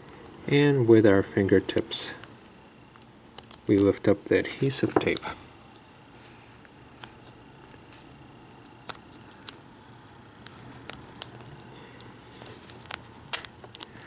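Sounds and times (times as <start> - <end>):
tape peeling clicks and crackles: 1.7 - 5.8, 6.6 - 14.0.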